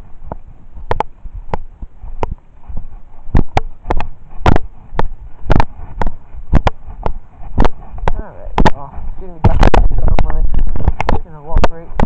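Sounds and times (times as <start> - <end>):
footsteps knocking: 0.3 - 12.0.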